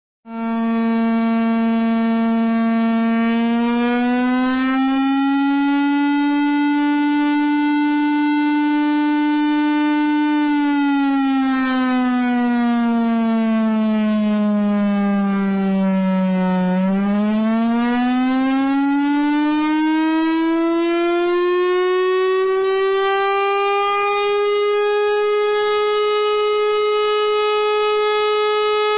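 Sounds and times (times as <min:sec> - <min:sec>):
air raid siren wailing: 0:00.3 - 0:28.9.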